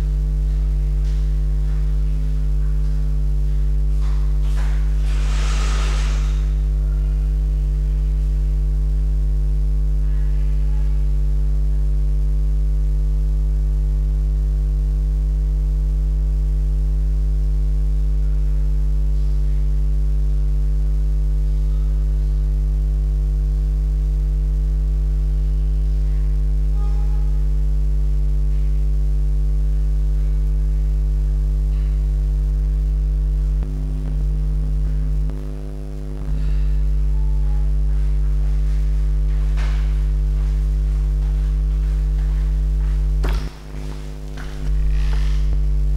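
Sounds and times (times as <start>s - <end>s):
mains hum and buzz: 0.0s - 45.9s.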